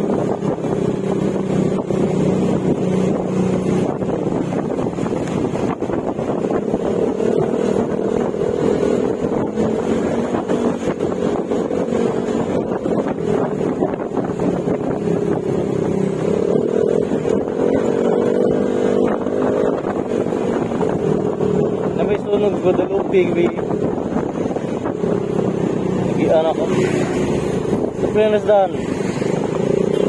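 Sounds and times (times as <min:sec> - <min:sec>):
scooter engine running: 0:00.0 - 0:30.0.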